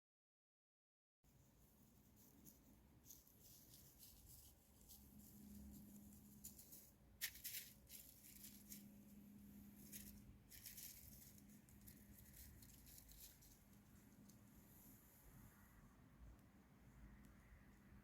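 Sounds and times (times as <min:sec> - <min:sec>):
faint low hum: 0:01.3 - 0:18.0.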